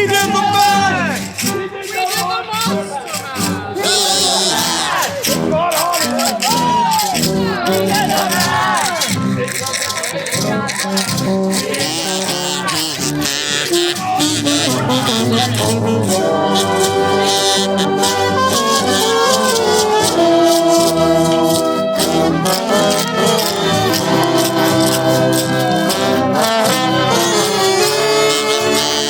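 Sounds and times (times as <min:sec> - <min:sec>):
brass horns playing: 0:00.0 - 0:29.0.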